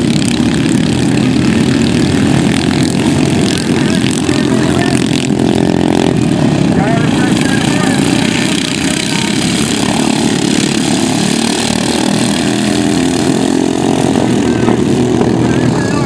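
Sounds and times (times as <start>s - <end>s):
racing lawnmower engines: 0.0s - 16.0s.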